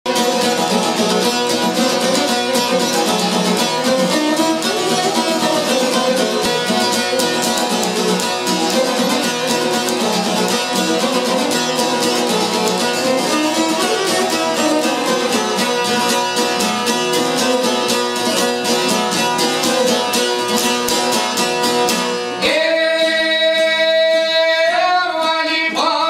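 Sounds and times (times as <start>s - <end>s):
violin: 0.1s - 21.0s
lutes plucked in quick notes: 0.1s - 22.4s.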